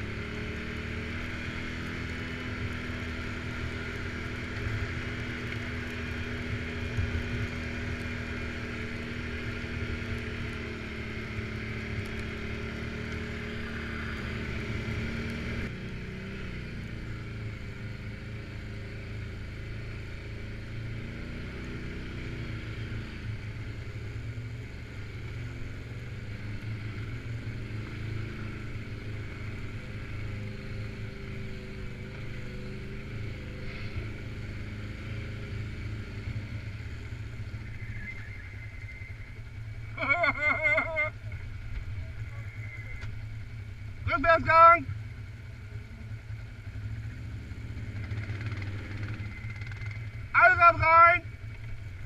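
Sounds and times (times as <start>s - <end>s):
atv engine running at low revs: 0.0s - 52.0s.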